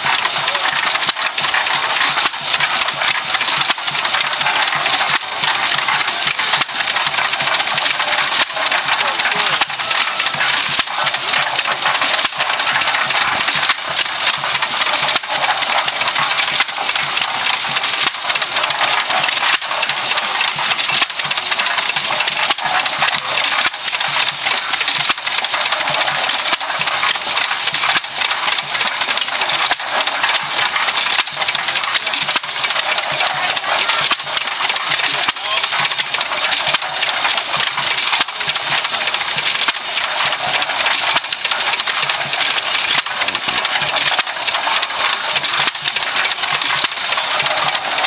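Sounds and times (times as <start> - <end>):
engine firing knocks: 0.0 - 48.0
hit-and-miss engine running: 0.0 - 48.0.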